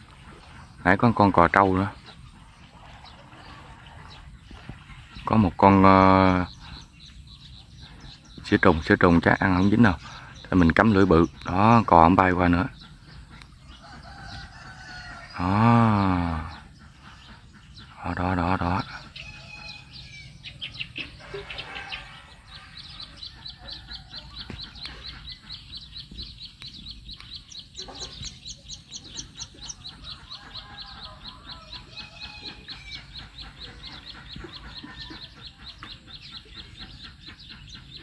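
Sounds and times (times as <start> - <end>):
birds chirping: 0.0 - 38.0
birds clucking: 0.0 - 38.0.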